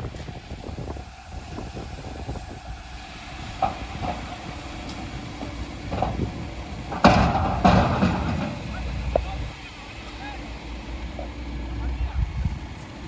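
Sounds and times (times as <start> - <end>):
heavy machinery rumble and hiss: 0.0 - 13.0.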